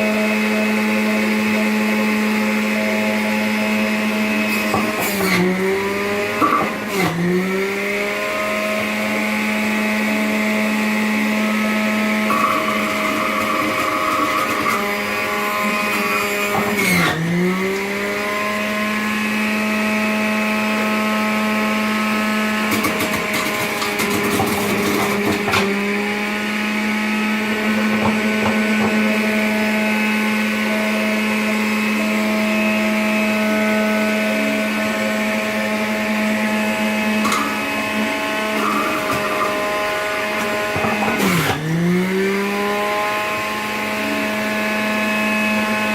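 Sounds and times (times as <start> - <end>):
juicer motor whining: 0.0 - 45.9.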